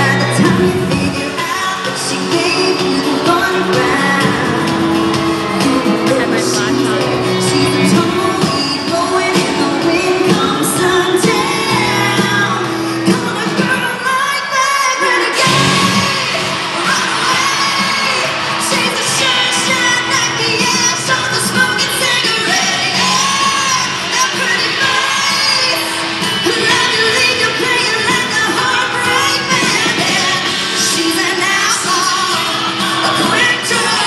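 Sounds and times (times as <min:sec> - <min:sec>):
live band playing: 0:00.0 - 0:34.0
woman singing: 0:00.0 - 0:34.0.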